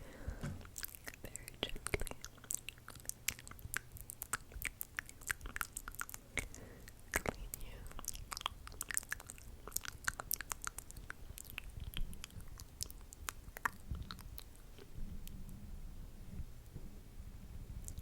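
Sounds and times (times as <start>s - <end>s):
wet lip and tongue clicks: 0.6s - 15.4s.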